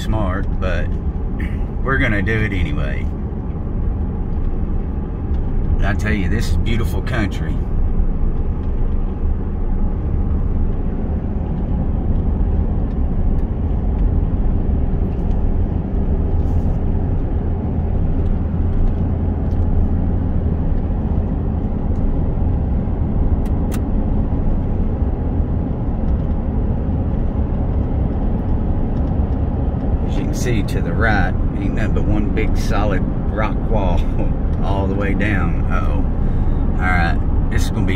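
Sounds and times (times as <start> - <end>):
truck engine and road noise: 0.0 - 37.9.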